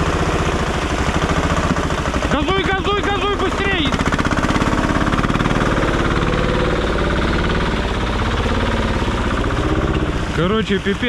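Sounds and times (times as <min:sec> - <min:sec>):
diesel engine running hard: 0:00.0 - 0:11.0.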